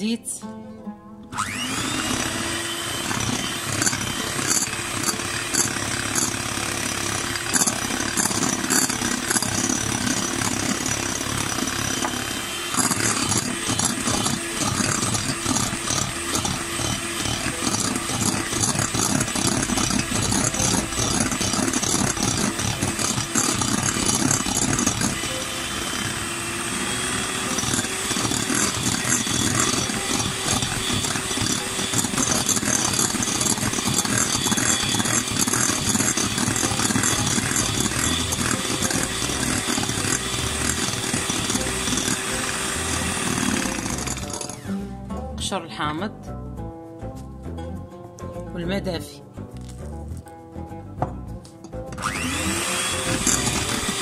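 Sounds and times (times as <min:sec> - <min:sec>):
electric hand mixer whine: 0:01.3 - 0:44.8, 0:51.9 - 0:54.0.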